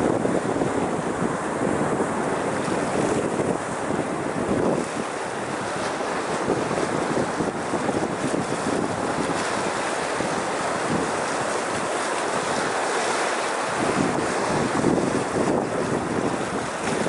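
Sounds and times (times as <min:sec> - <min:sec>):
sea waves splashing against rocks: 0:00.0 - 0:17.0
wind buffeting microphone: 0:00.0 - 0:17.0.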